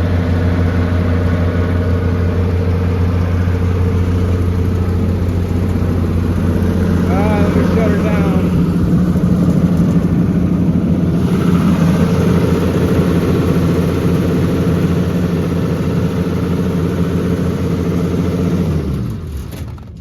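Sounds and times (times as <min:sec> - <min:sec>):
generator diesel engine: 0:00.0 - 0:20.0.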